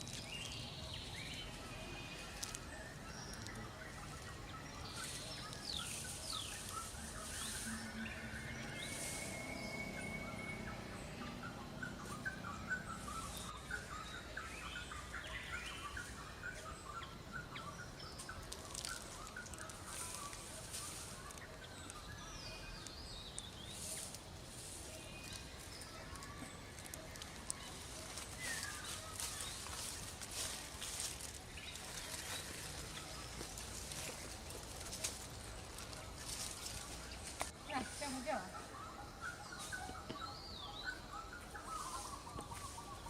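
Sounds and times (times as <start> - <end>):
birds chirping: 0.0 - 43.0
steady background hiss: 0.0 - 43.0.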